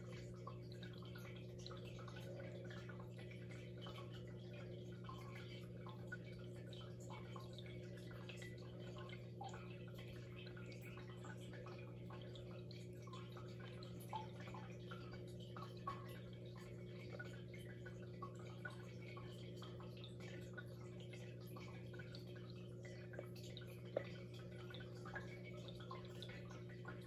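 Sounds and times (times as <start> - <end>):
aquarium pump humming: 0.0 - 27.0
water drips and plinks: 0.0 - 27.0.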